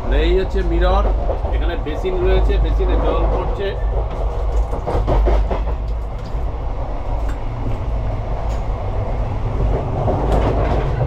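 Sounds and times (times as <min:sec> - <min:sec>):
train coach rumbling on track: 0:00.0 - 0:11.0.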